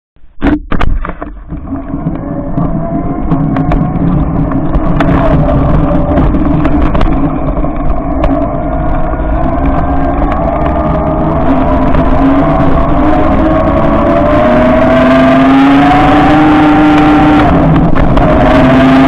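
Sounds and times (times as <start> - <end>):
rumble of riding over snow: 0.2 - 19.0
electric motor whining: 1.6 - 19.0.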